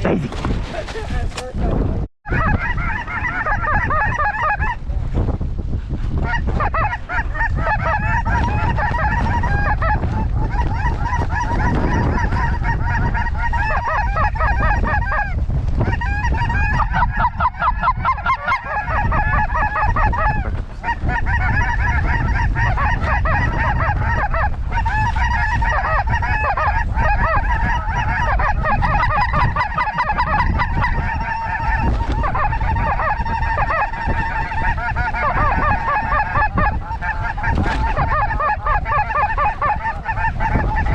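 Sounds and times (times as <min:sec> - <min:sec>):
wind rumble on microphone: 0:00.0 - 0:40.9
snow geese calling: 0:02.3 - 0:04.8, 0:06.2 - 0:40.9.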